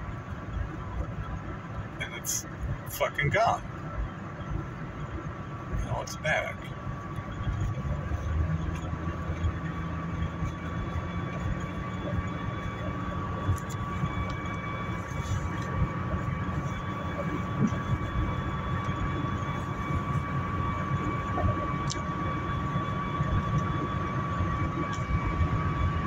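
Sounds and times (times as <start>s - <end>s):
high-pitched whine: 0.0s - 26.0s
road rumble inside car: 0.0s - 26.0s.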